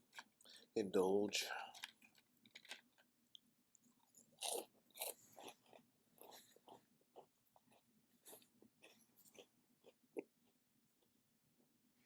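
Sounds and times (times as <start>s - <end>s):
chewing and crunching food: 0.0s - 0.8s, 1.4s - 11.7s.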